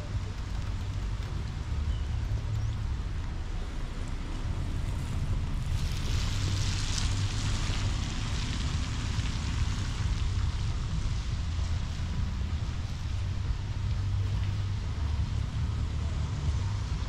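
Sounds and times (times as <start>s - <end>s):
traffic: 0.0s - 17.0s
wind rumble on microphone: 0.0s - 17.0s.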